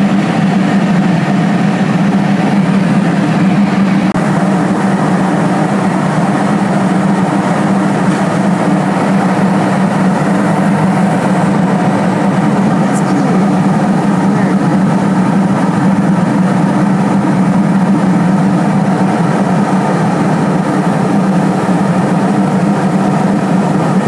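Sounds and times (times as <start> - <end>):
airliner cabin noise: 0.0 - 24.0.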